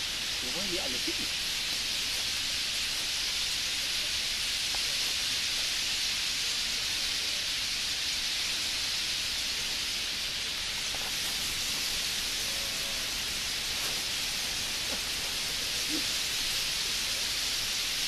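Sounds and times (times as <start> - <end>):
huge flock of birds flying: 0.0 - 18.0.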